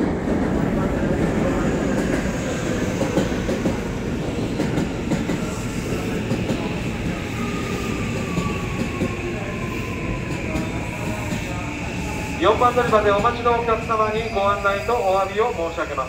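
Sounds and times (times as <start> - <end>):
train wheels rumbling and clicking: 0.0 - 13.9.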